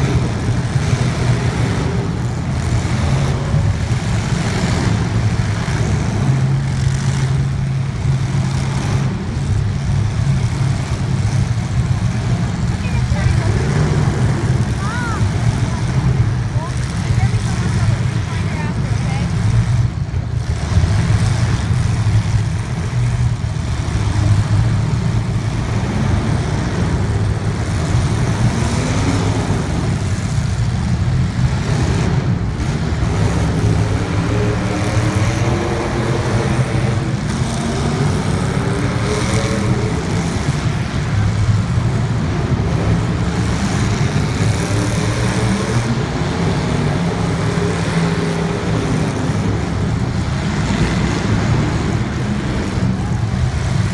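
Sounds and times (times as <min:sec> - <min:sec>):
racing engines revving: 0:00.0 - 0:53.9.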